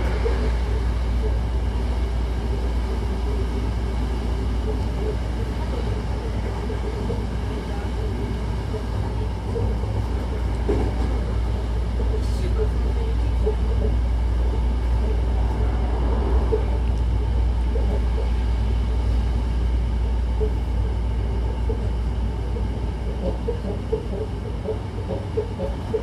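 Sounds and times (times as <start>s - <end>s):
train running gear rumble: 0.0s - 26.0s.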